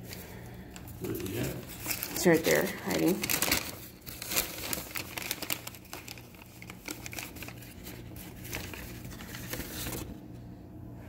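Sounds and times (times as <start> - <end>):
rustling and crinkling: 0.0 - 10.2.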